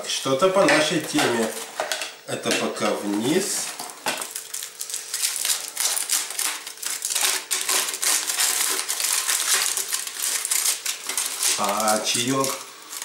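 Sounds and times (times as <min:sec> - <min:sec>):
foil and plastic crinkling: 0:00.8 - 0:13.0.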